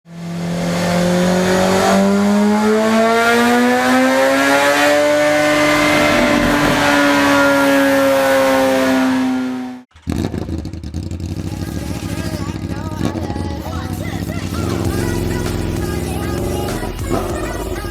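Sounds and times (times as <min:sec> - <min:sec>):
motorcycle engine at full throttle: 0:00.0 - 0:17.9.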